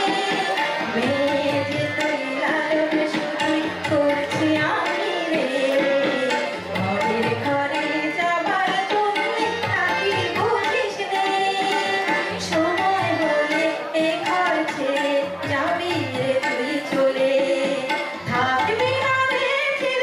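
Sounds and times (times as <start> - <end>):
tabla drums: 0.0 - 20.0
woman singing into microphone: 0.0 - 20.0.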